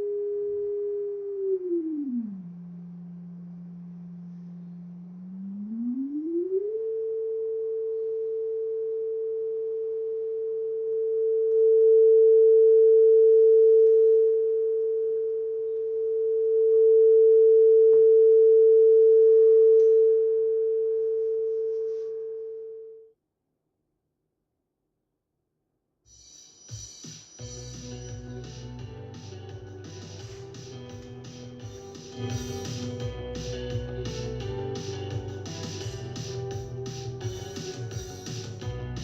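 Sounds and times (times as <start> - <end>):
sine test tone through amplifier: 0.0 - 23.2, 27.4 - 39.0.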